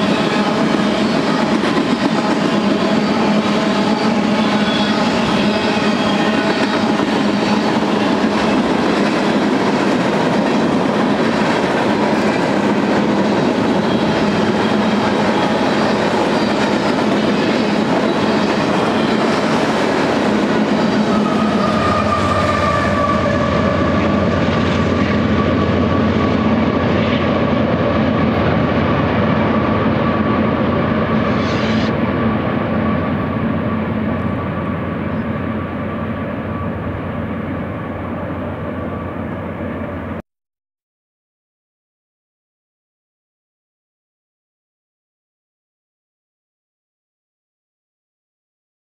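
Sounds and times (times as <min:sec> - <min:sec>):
freight train wheels rumbling: 0:00.0 - 0:40.2.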